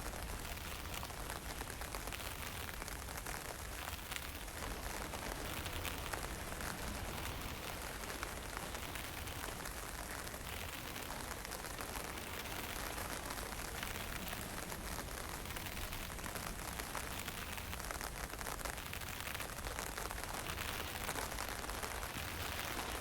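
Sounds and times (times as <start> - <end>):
low wind rumble: 0.0 - 23.0
patter of raindrops: 0.0 - 23.0.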